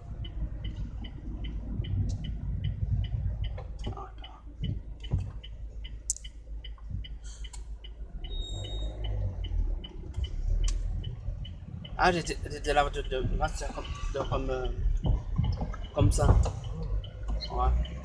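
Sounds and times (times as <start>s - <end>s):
car engine idling: 0.0s - 18.0s
turn signal clicking: 0.0s - 18.0s.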